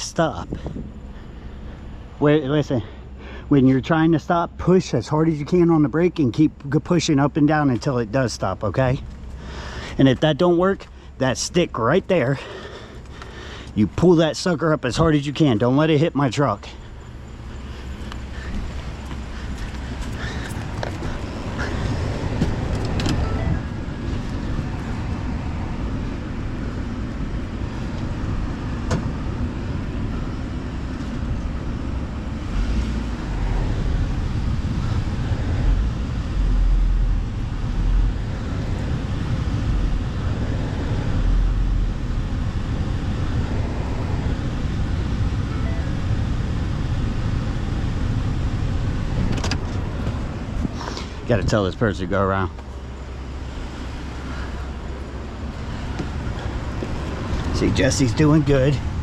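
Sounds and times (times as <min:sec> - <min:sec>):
low rumbling bumps: 0:00.0 - 0:03.3, 0:08.8 - 0:59.0
truck engine and road rumble: 0:00.0 - 0:59.0.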